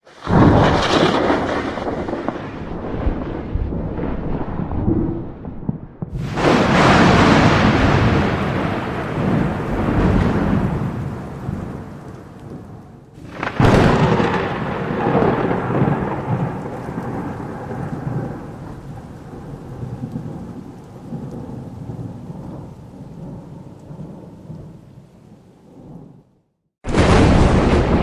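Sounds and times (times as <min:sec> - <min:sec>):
thunder crack and rumble: 0:00.1 - 0:28.0.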